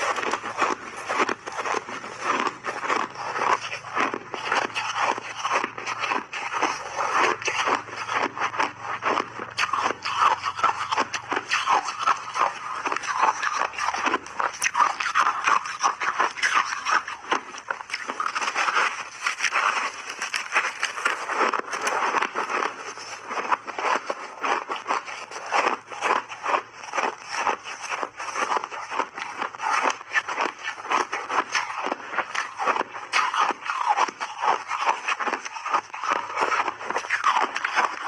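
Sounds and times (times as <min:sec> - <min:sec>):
chewing ice crunching: 0:00.0 - 0:38.0.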